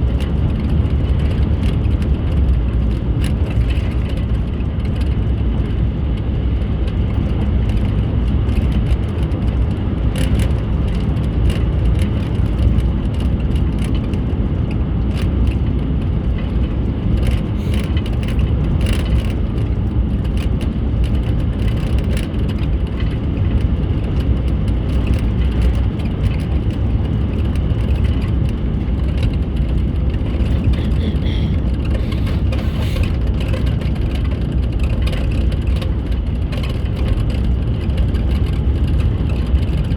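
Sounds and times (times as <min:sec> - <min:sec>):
car interior road and engine rumble: 0:00.0 - 0:39.9.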